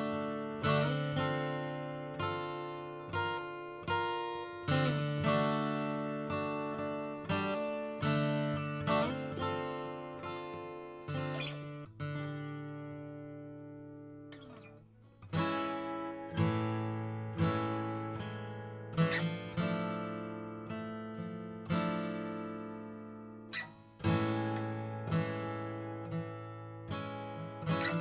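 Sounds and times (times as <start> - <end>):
acoustic guitar chords strummed: 0.0 - 28.0.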